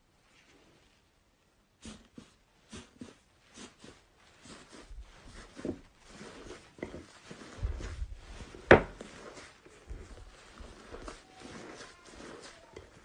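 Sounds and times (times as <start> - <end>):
slime squishing with soft crackles: 0.1 - 13.0.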